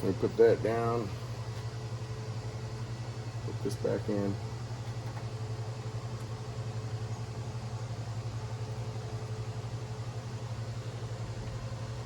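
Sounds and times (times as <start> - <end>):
low mechanical hum with flutter: 0.0 - 12.0.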